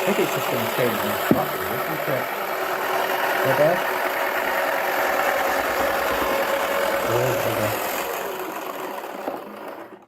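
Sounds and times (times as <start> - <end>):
small electric motor spinning drum: 0.0 - 10.0.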